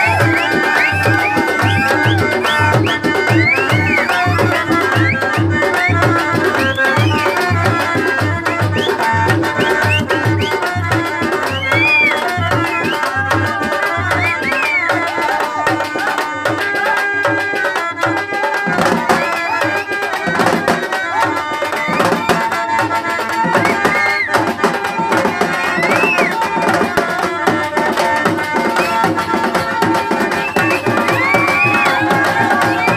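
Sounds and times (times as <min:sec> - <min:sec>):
hand drums beat: 0:00.0 - 0:32.9.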